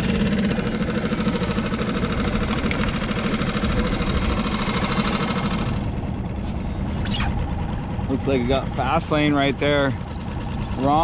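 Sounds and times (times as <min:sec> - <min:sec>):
outboard motor humming: 0:00.0 - 0:11.0.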